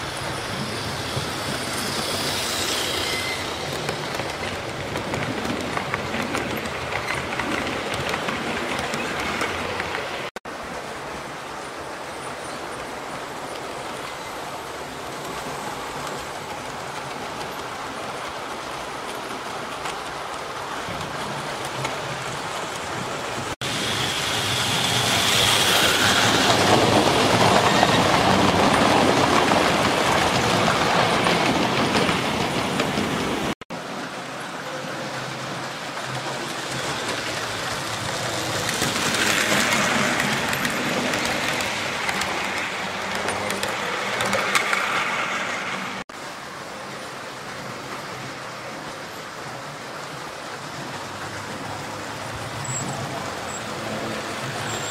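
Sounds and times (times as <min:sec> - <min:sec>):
model trains rattling on track: 0:00.0 - 0:10.3, 0:12.7 - 0:33.6, 0:34.3 - 0:46.0, 0:46.6 - 0:54.9.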